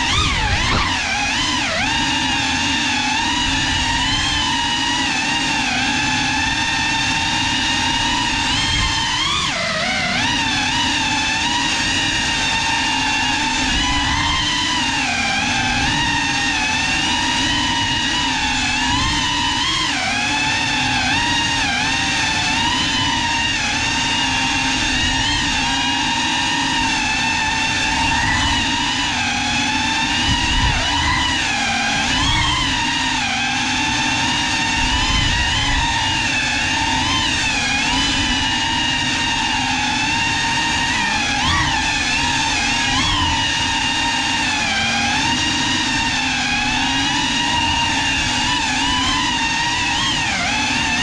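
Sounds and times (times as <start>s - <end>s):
drone motors whining: 0.0s - 51.0s.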